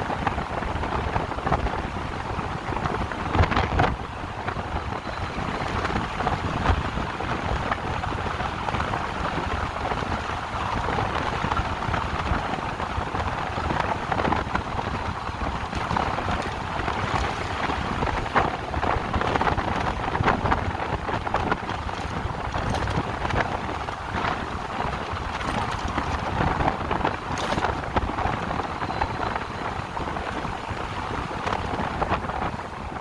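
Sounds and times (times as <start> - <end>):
wind buffeting gusts: 0.0 - 33.0
wind rushing over microphone: 0.0 - 33.0.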